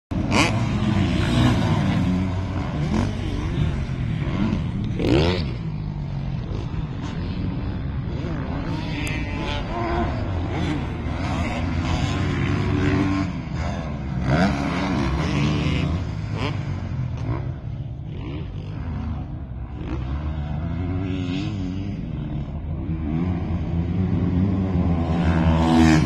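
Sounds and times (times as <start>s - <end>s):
motocross bike engine revving: 0.1s - 26.0s.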